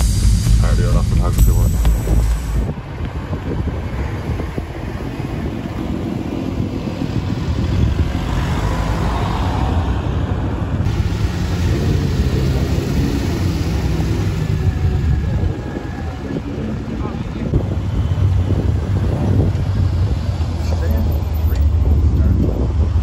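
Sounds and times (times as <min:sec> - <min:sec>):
car engines passing slowly: 0:00.0 - 0:23.0.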